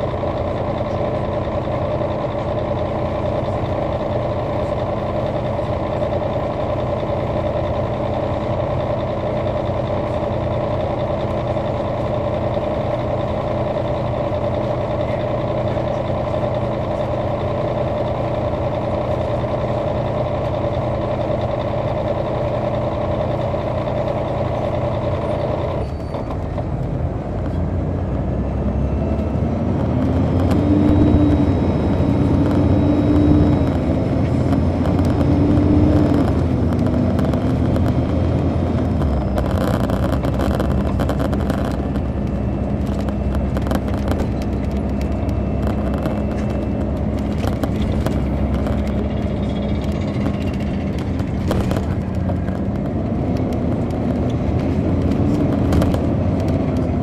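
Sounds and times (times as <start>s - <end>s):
bus diesel engine driving: 0.0s - 57.0s.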